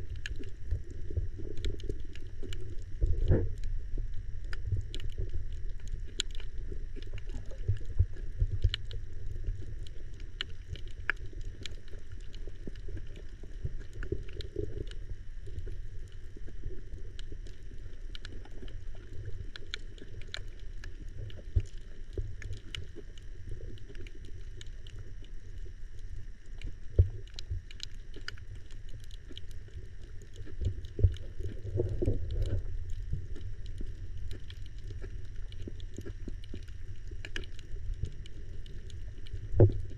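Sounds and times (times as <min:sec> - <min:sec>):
underwater rumble of moving water: 0:00.0 - 0:39.9.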